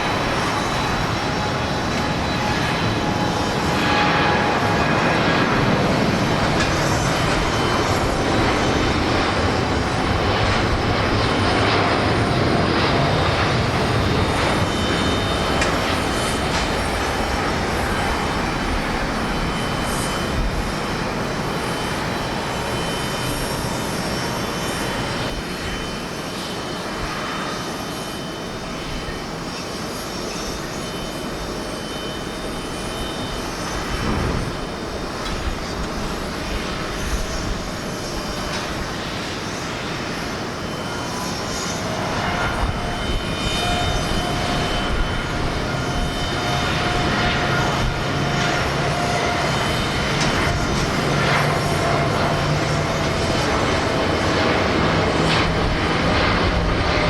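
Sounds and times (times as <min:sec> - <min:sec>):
wind rumbling on microphone: 0:00.0 - 0:26.0, 0:33.3 - 0:57.0
jet engines roaring: 0:00.0 - 0:57.0.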